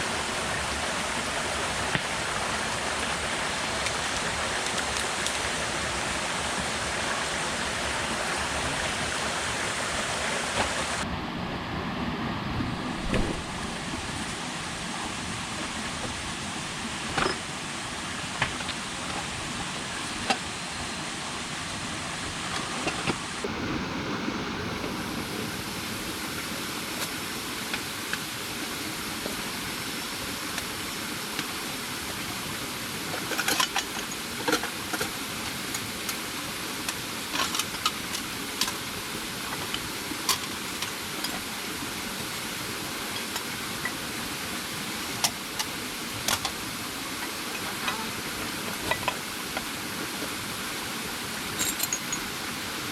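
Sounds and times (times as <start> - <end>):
rushing water hiss: 0.0 - 52.9.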